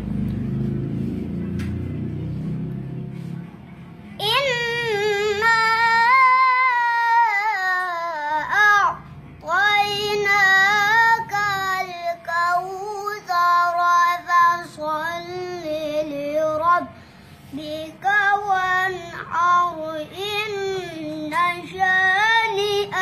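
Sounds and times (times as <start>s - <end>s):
boy chanting recitation: 4.2s - 23.0s.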